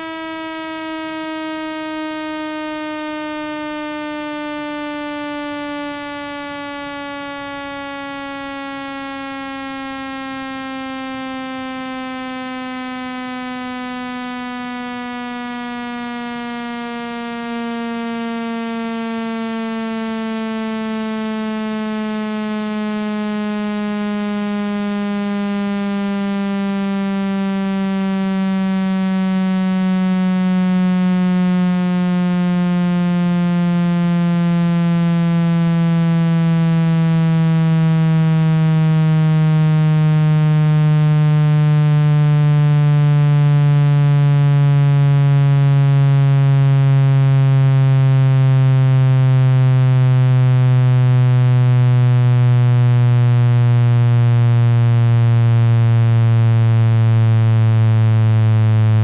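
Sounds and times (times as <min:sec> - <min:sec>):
buzzy electronic tone sweeping down: 0:00.0 - 0:59.0.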